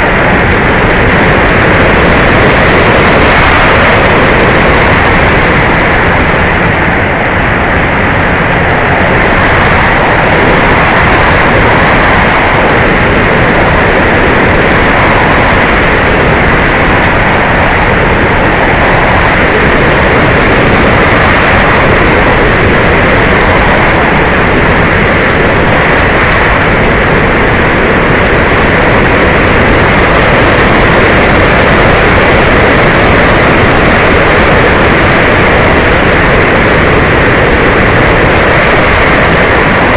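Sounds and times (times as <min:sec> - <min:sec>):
electric motor and propeller: 0:00.0 - 0:39.9
wind rushing: 0:00.0 - 0:39.9.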